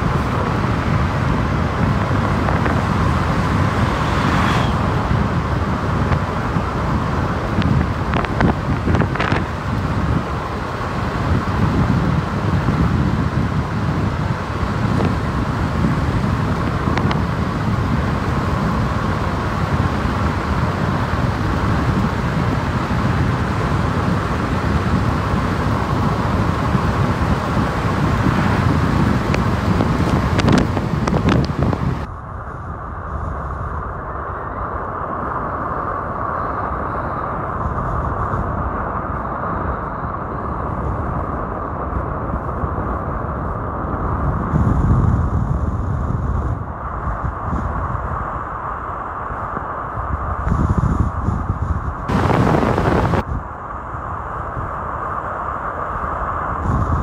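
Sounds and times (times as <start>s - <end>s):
muffled road and engine hum: 0.0s - 57.0s
wind and road noise: 0.0s - 57.0s.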